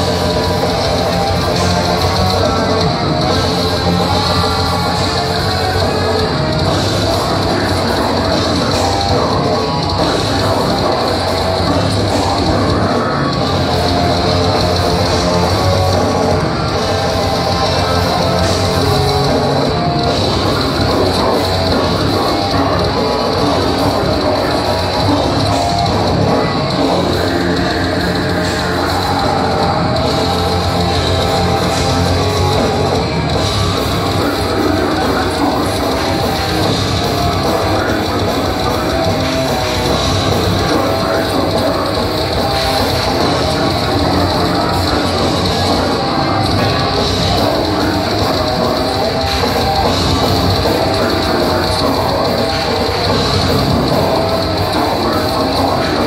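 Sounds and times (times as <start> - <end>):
distorted electric guitars: 0.0 - 56.0
drum kit: 0.0 - 56.0.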